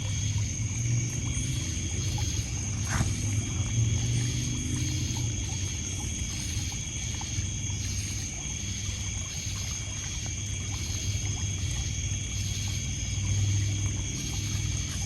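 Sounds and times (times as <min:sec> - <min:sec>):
crickets chirring: 0:00.0 - 0:15.0
pulsed insect call: 0:00.0 - 0:15.0
water trickling on pebbles: 0:00.0 - 0:15.0.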